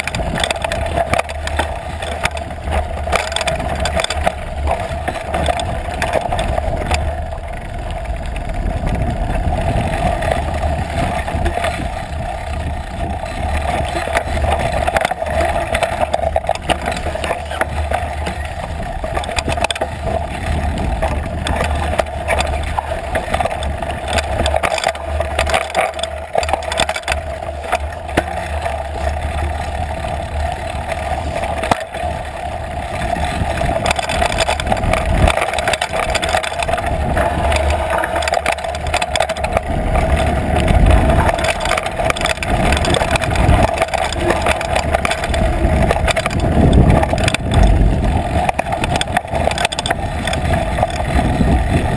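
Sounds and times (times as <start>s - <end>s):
mountain bike frame clattering: 0.0s - 51.9s
steady hum: 0.0s - 51.9s
tyre noise on dirt: 0.0s - 51.9s.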